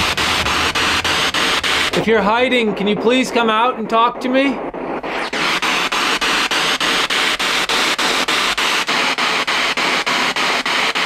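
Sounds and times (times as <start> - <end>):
radio static chopped by gaps: 0.0 - 11.0.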